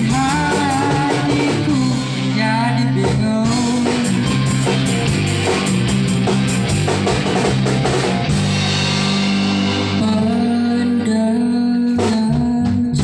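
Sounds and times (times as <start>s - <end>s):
drum kit hitting busily: 0.0s - 10.8s
bass guitar: 0.0s - 13.0s
electric guitar: 0.0s - 13.0s.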